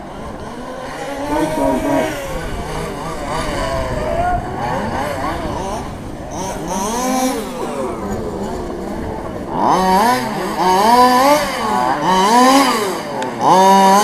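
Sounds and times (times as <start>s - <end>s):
rc truck motors whining: 0.0s - 14.0s.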